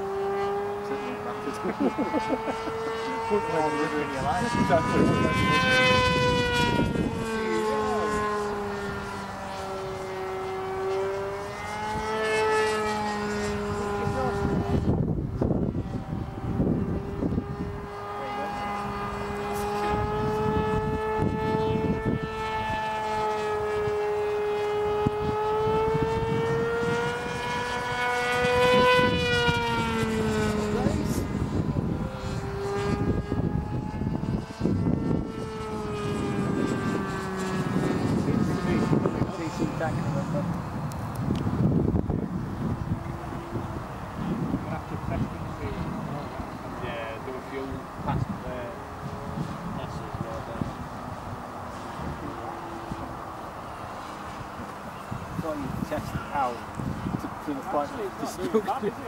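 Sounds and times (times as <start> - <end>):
model aircraft engine buzzing: 0.0 - 59.0.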